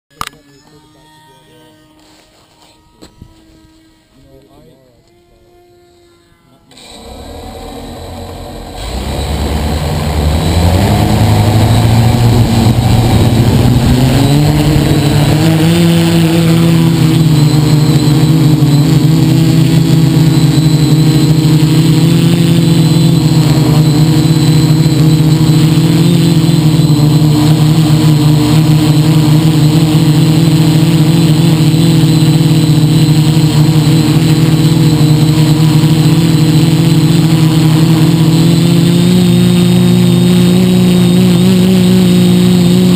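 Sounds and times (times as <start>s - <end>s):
drone motors and propellers: 2.0s - 42.9s.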